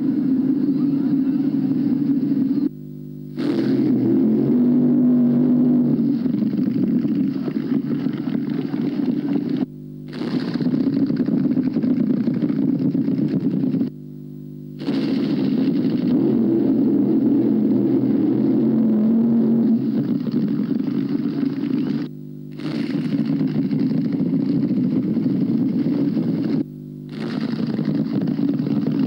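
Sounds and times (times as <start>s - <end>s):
drag racing engines roaring: 0.0s - 2.7s, 3.3s - 13.9s, 14.8s - 29.0s.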